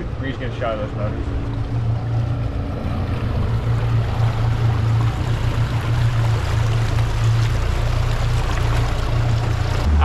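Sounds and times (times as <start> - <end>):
outboard motors droning: 0.0 - 10.0
rushing water: 0.0 - 10.0
wind: 0.0 - 10.0.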